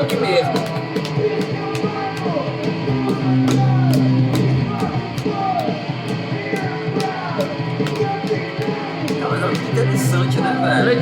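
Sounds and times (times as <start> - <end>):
fast drum beat: 0.0 - 11.0
guitar: 0.0 - 11.0
person singing: 0.0 - 11.0.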